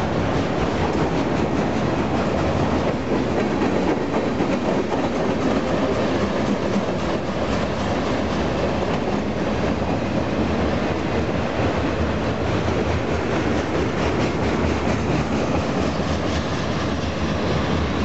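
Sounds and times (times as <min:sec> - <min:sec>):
steel wheels running on rails: 0:00.0 - 0:18.0.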